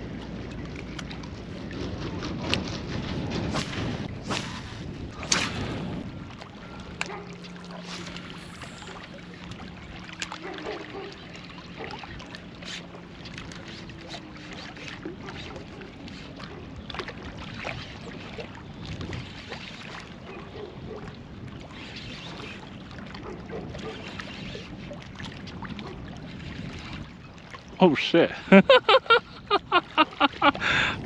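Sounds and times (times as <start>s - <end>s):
wind: 0.0s - 31.0s
lapping water: 5.1s - 31.0s.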